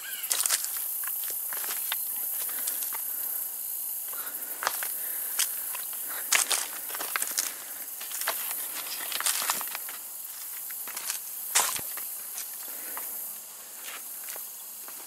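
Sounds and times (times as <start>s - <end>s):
steady high hiss: 0.0s - 15.0s
footsteps crunching on gravel: 0.1s - 3.2s, 4.1s - 15.0s.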